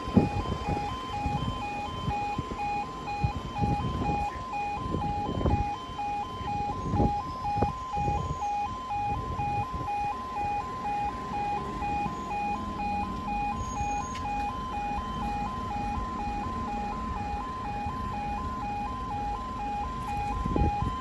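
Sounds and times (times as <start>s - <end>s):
level crossing alarm: 0.0s - 21.0s
road traffic rumble: 0.0s - 21.0s.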